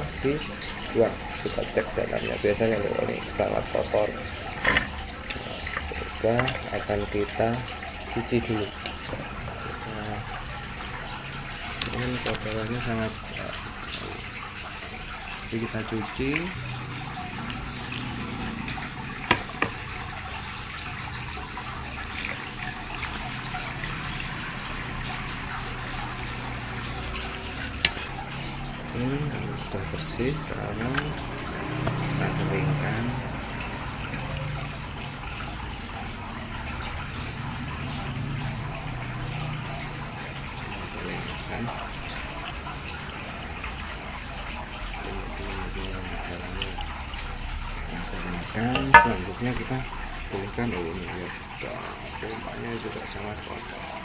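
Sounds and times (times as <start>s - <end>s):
water running from a tap: 0.0s - 54.0s.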